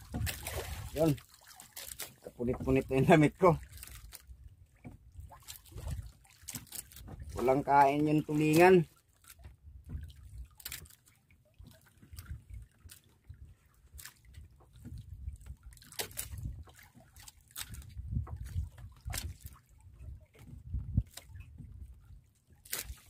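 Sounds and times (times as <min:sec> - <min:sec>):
small splashes and drips: 0:00.0 - 0:23.0
water sloshing against hull: 0:00.0 - 0:23.0.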